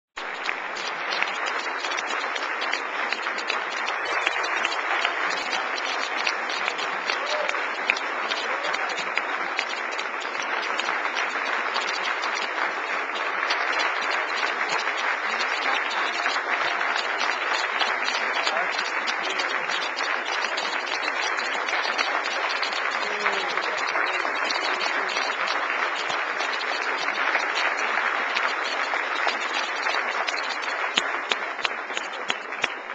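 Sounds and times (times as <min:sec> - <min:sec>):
crowd applauding: 0:00.2 - 0:32.9.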